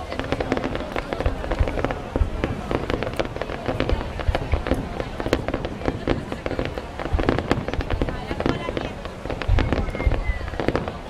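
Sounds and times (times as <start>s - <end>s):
deep fireworks booms: 0.0s - 11.0s
fireworks cracking and banging: 0.0s - 11.0s.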